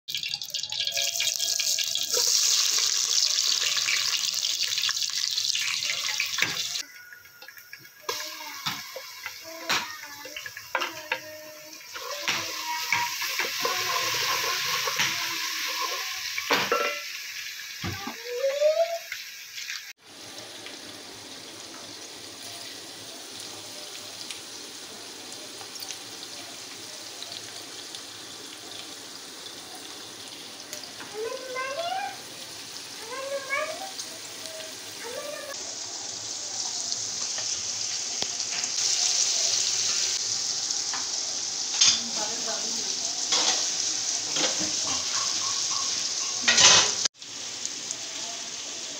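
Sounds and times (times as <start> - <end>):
onions sizzling in hot oil: 0.1 - 48.9.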